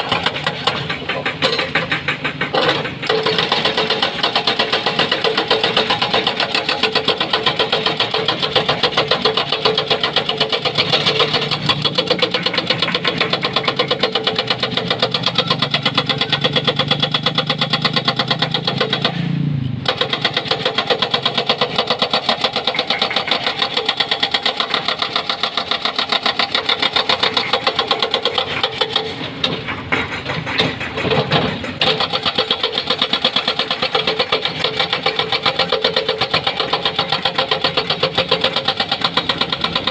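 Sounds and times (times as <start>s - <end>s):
excavator diesel engine: 0.0s - 39.9s
hydraulic breaker hammering rock: 0.0s - 39.9s.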